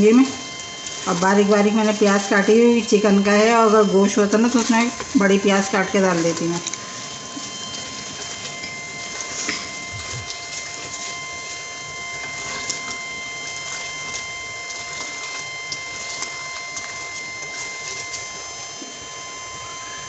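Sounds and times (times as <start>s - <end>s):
high whine: 0.0s - 20.0s
metal spatula scraping pot: 0.4s - 18.2s.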